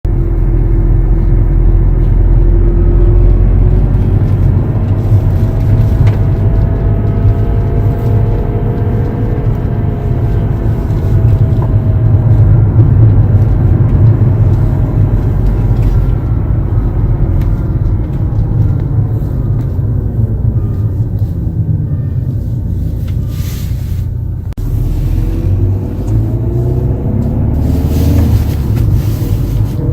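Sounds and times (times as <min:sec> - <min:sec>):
car engine low rumble: 0:00.0 - 0:29.9
drivetrain whine: 0:00.0 - 0:29.9.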